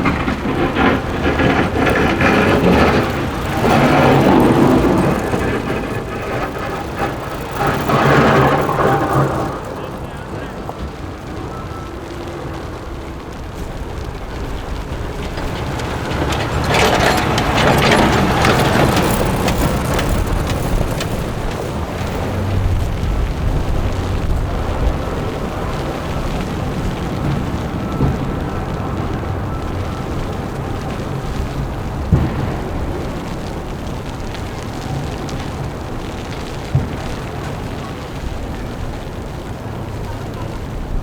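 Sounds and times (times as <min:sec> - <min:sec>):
city street traffic: 0:00.0 - 0:41.0.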